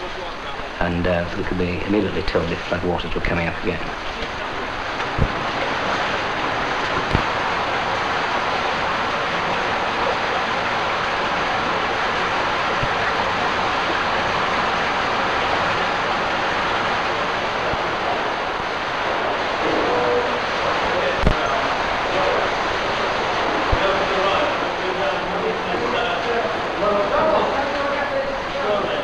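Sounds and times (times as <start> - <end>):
rushing water in cave stream: 0.0 - 29.0.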